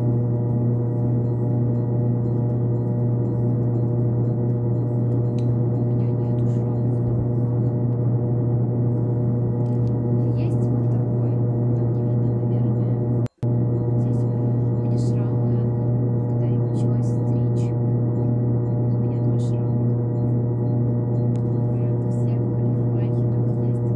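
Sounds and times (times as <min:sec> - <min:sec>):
steady low drone: 0:00.0 - 0:23.9.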